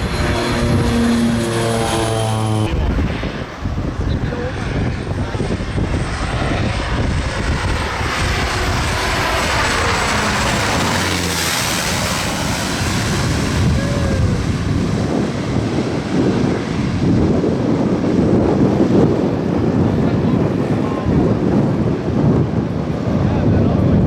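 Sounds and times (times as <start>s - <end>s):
propeller aircraft passing: 0.0s - 23.4s.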